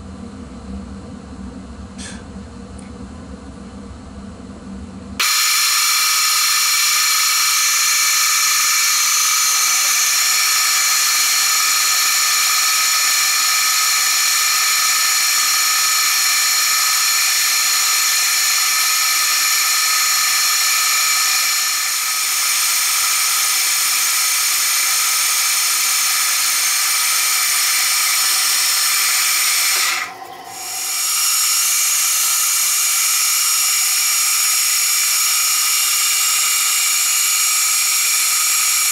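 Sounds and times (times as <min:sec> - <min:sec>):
milling machine cutting whine: 0:05.2 - 0:38.9.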